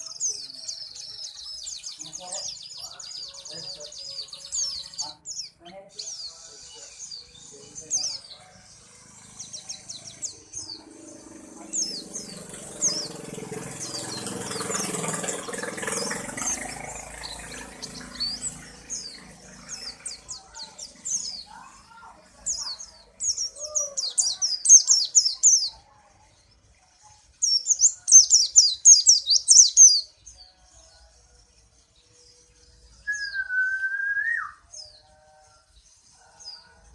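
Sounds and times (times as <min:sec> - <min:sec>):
bird chirping and trilling: 0:00.0 - 0:25.9, 0:27.4 - 0:30.5, 0:32.2 - 0:35.4.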